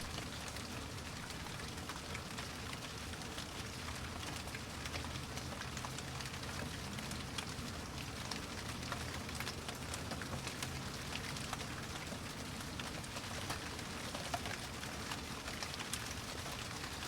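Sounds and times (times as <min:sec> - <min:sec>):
rain pattering on hard surface: 0:00.0 - 0:17.0.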